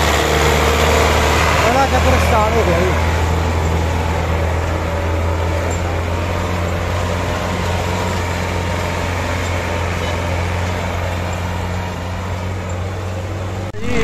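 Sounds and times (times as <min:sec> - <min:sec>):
diesel tractor engine droning: 0:00.0 - 0:14.0.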